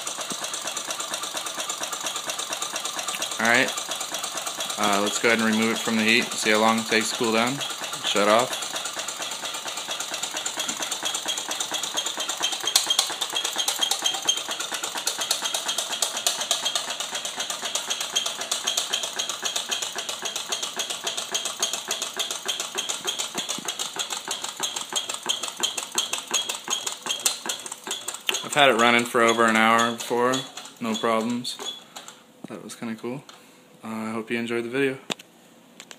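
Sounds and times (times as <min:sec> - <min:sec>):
small engine clattering: 0:00.0 - 0:33.4.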